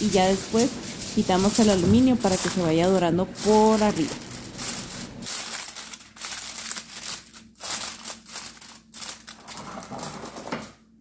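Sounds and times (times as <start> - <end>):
aluminium foil crinkling: 0.0 - 10.5.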